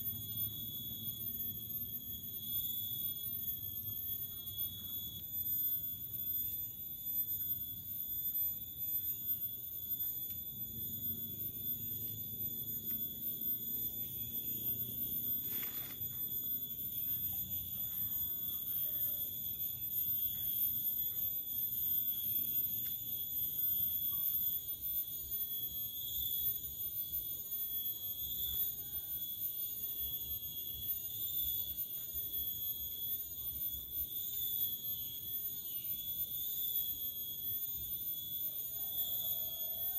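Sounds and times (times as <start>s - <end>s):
insects shrilling in chorus: 0.0s - 39.9s.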